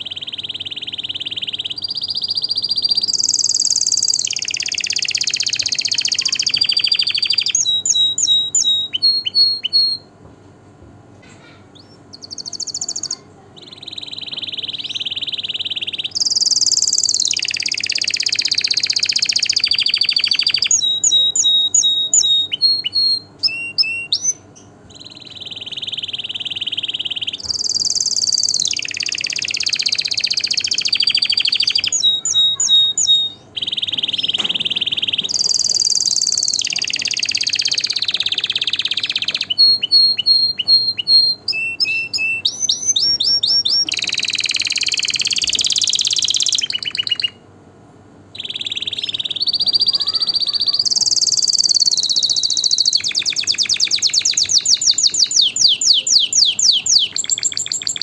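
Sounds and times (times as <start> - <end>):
canary singing: 0.0 - 10.2, 11.2 - 58.0.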